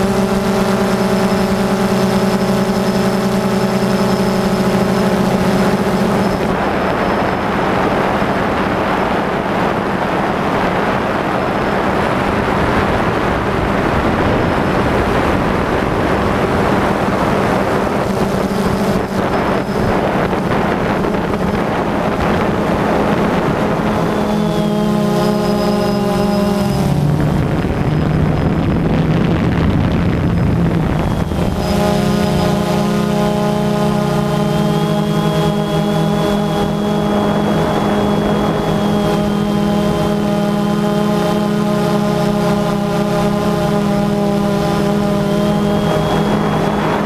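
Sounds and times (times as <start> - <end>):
drone motors whining: 0.0 - 47.0
loud rushing noise: 3.3 - 47.0.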